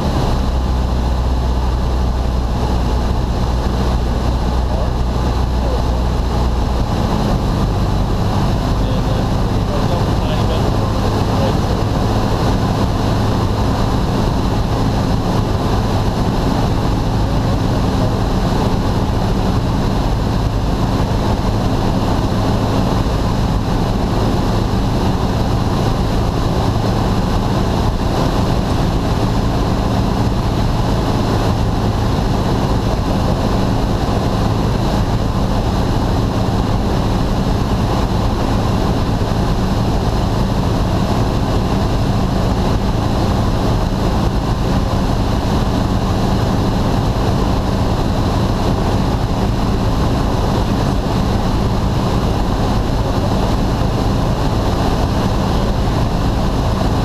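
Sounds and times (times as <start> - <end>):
plane engine and propeller drone: 0.0 - 57.0.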